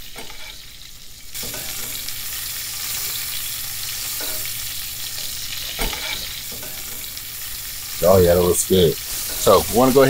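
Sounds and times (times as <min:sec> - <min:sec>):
steaks sizzling on grill: 0:00.0 - 0:10.0.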